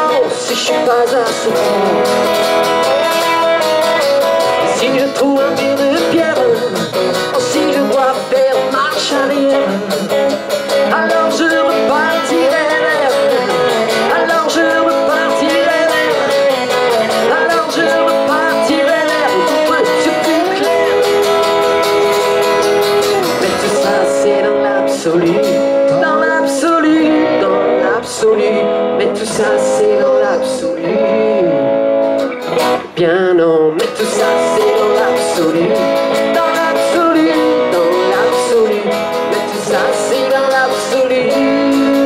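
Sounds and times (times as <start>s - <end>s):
electric guitar lead with bent notes: 0.0s - 42.0s
strummed acoustic guitar: 0.0s - 42.0s.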